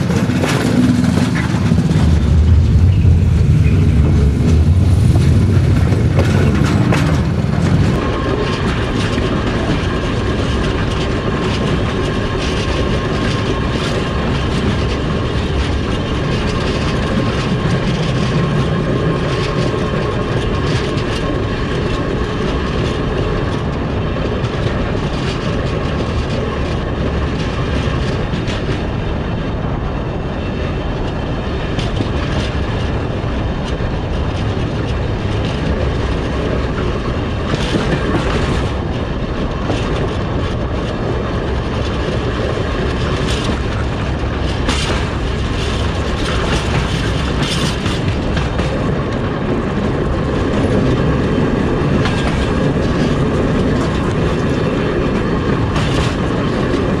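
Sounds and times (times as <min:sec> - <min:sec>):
train wheels rumbling on track: 0:00.0 - 0:57.0
wheels clickety-clack over rail joints: 0:00.0 - 0:57.0.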